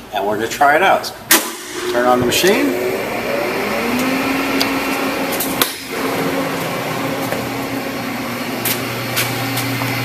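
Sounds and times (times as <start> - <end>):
machine fans whirring hum: 0.0 - 10.0
low hum: 1.4 - 10.0.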